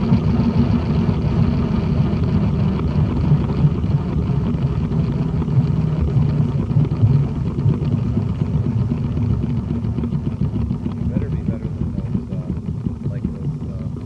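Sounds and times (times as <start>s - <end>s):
rotor air buffeting microphone: 0.0s - 14.0s.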